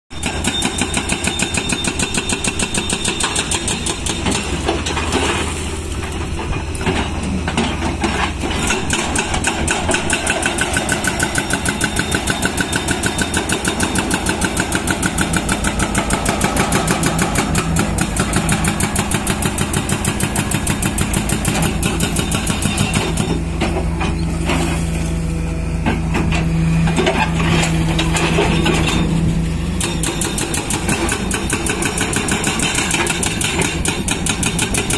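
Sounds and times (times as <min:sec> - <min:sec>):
hydraulic breaker hammering rock: 0:00.2 - 0:05.5, 0:06.2 - 0:24.0, 0:29.8 - 0:34.9
diesel engine running: 0:00.2 - 0:34.9.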